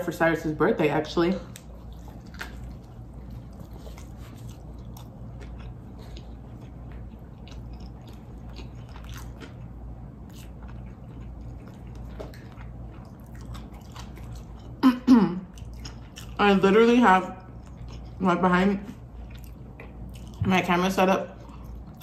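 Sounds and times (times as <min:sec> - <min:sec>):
steady low hum: 0:00.0 - 0:22.0
wet chewing with crunches: 0:01.0 - 0:22.0.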